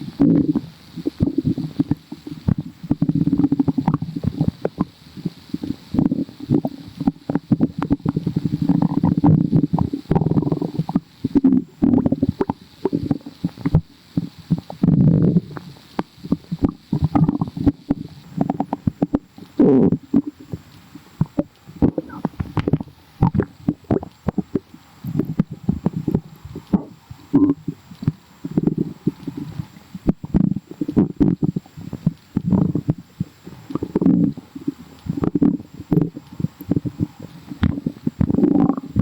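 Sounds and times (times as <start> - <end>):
stomach growling and gurgling: 0.0 - 39.0.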